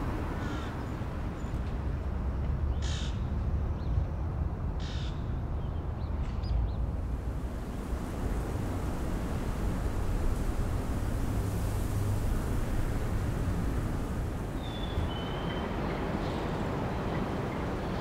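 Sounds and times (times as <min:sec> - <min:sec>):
low city rumble: 0:00.0 - 0:18.0.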